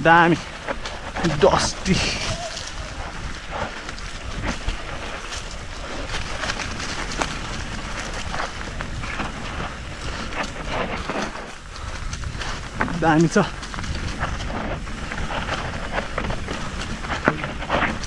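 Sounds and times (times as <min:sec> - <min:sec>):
mountain bike rumbling on dirt: 0:00.0 - 0:18.0
wind buffeting microphone: 0:00.0 - 0:18.0
bike knocks and rattles: 0:00.2 - 0:18.0.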